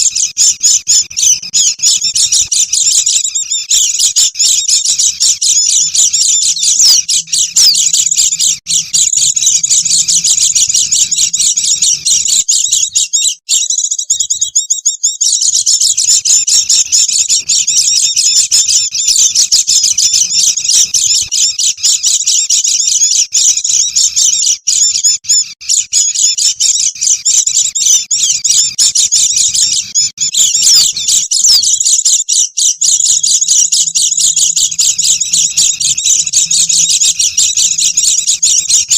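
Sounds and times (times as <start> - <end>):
birds twittering chorus: 0.0 - 38.9.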